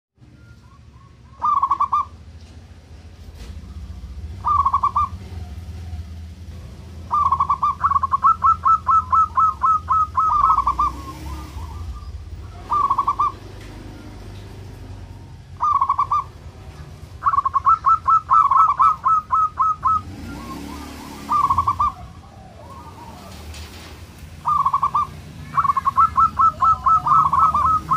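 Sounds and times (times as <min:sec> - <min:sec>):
dove cooing: 0:01.0 - 0:02.2, 0:03.7 - 0:06.3, 0:07.0 - 0:14.4, 0:15.3 - 0:27.9.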